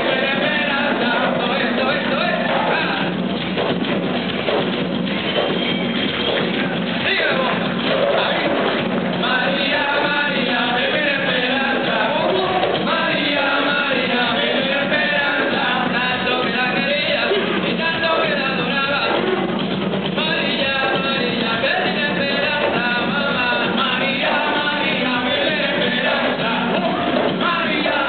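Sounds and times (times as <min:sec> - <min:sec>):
person singing: 0:00.0 - 0:03.2, 0:06.7 - 0:19.6, 0:20.2 - 0:28.0
hand drums and percussion: 0:00.0 - 0:28.0.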